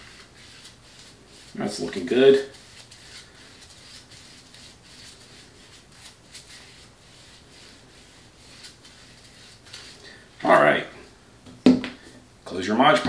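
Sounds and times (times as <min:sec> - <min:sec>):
soft brushing strokes: 0:00.0 - 0:11.2.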